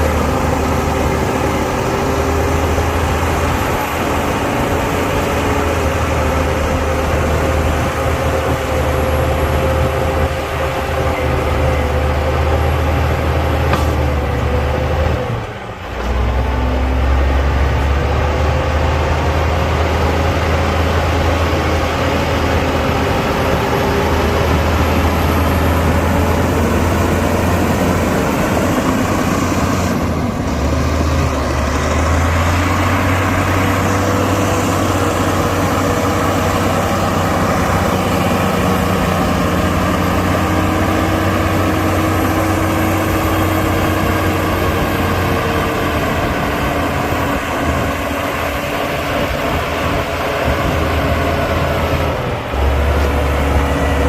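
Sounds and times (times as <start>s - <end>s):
heavy diesel engine rumbling: 0.0s - 54.0s.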